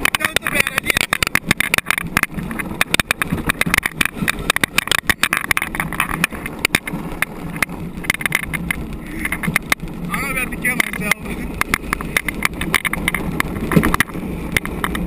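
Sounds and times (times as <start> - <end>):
cart wheels rumbling on pavement: 0.0 - 15.0
rattles clicks and knocks: 0.0 - 15.0.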